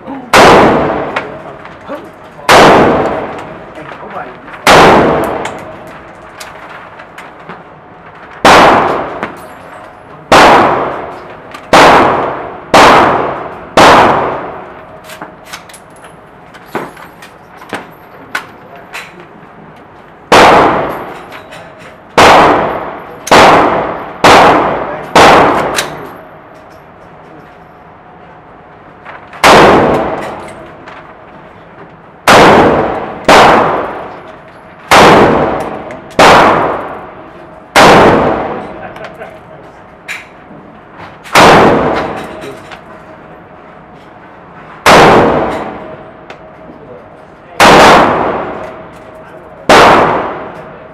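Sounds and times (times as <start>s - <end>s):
rifle shots in indoor range: 0.2s - 3.8s, 4.5s - 19.2s, 19.8s - 50.9s.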